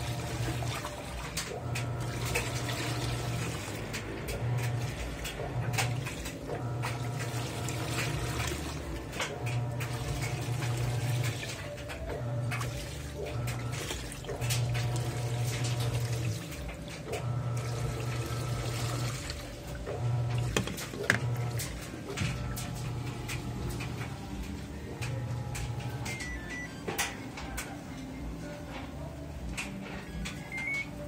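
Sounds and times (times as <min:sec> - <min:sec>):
water sloshing and splashing: 0:00.0 - 0:27.1
washing machine motor humming: 0:00.0 - 0:31.0.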